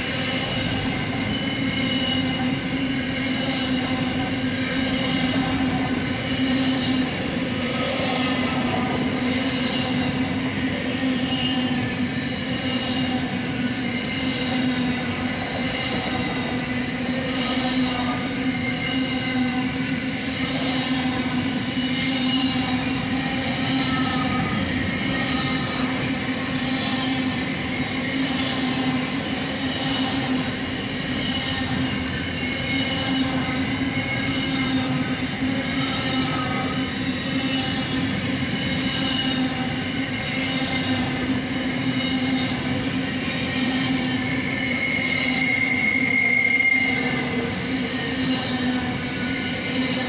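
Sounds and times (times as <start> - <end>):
constant hum: 0.0 - 50.0
freight train wheels rumbling: 0.0 - 50.0.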